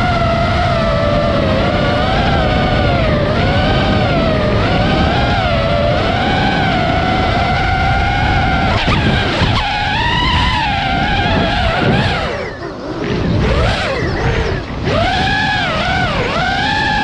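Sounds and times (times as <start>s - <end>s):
drone motors whining: 0.0s - 17.0s
rough rushing noise: 0.0s - 17.0s.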